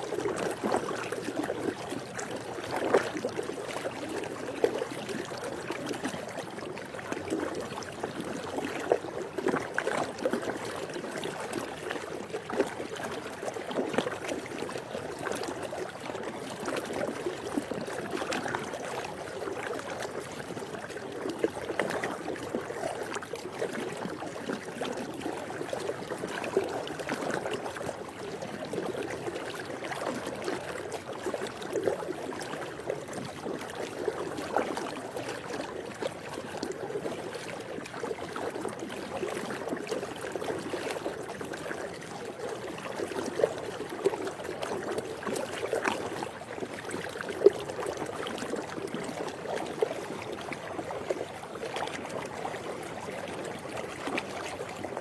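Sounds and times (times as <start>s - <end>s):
pool water lapping and gurgling: 0.0s - 55.0s
small water splashes: 0.0s - 55.0s.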